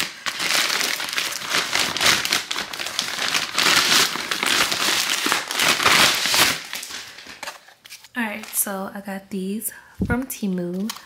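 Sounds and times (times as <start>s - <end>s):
crinkly packaging crackling: 0.0s - 8.8s, 10.4s - 11.0s.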